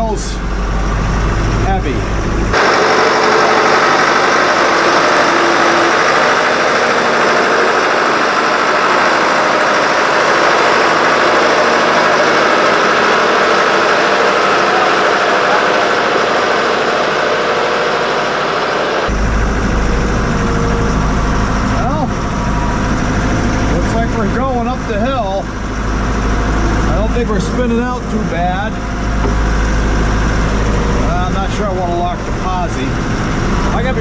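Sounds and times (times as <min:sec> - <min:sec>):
diesel engine under heavy load: 0:00.0 - 0:34.0.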